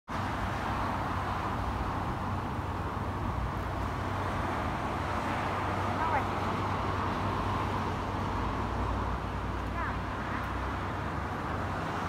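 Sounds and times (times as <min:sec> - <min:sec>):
city traffic noise: 0:00.1 - 0:12.0.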